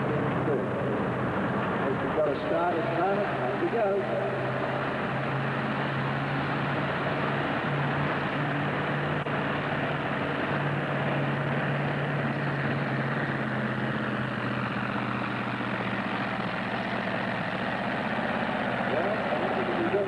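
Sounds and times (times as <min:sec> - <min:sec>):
engine idling steadily: 0:00.0 - 0:20.0.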